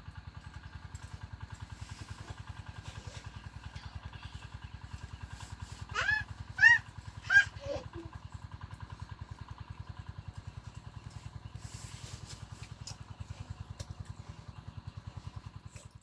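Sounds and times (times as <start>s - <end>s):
small engine idling: 0.0s - 16.0s.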